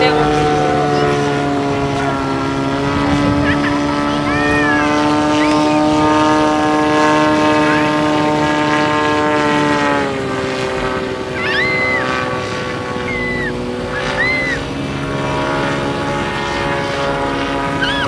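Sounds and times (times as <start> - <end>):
propeller engine whine: 0.0 - 18.0.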